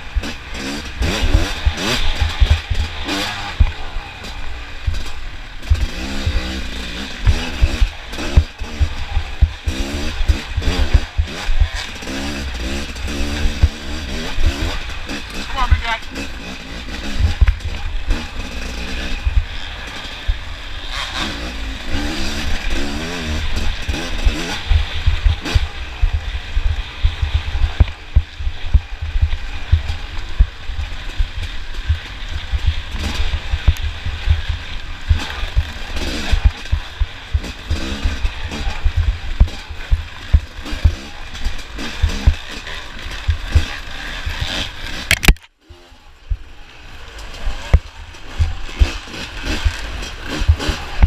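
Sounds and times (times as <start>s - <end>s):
heavy low rumble: 0.0s - 43.6s
motorcycle engine revving: 0.0s - 51.0s.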